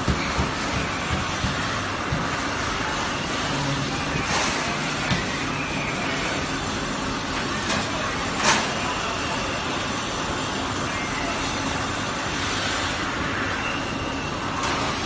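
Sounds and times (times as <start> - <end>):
assembly line machinery running: 0.0 - 15.0.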